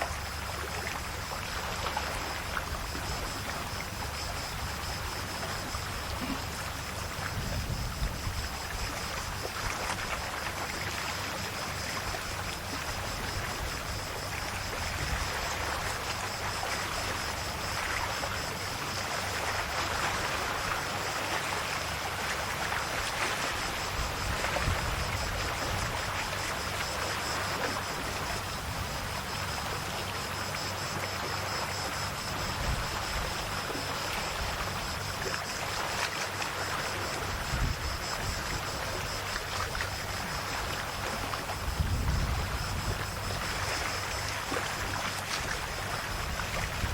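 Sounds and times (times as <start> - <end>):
sea waves lapping on shore: 0.0 - 46.9.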